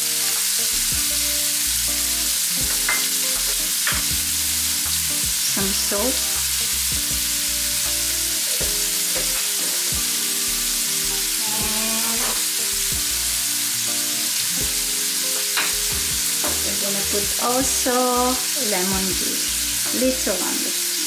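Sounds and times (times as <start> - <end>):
background music sustained notes: 0.0 - 21.0
shrimp sizzling in oil: 0.0 - 21.0.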